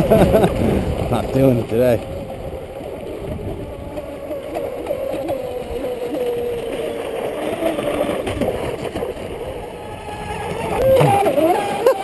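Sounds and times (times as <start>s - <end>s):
speedboat motor whine: 0.0s - 12.0s.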